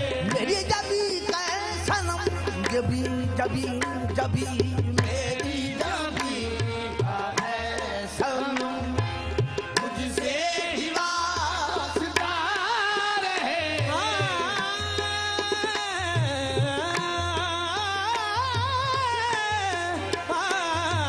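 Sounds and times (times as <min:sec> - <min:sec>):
harmonium: 0:00.0 - 0:21.0
tabla strokes: 0:00.0 - 0:21.0.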